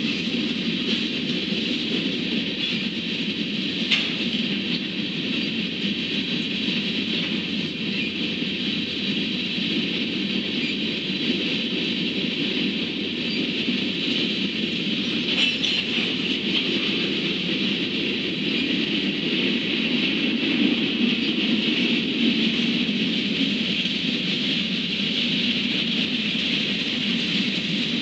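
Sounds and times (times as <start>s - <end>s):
freight train wheels on rail: 0.0s - 28.0s.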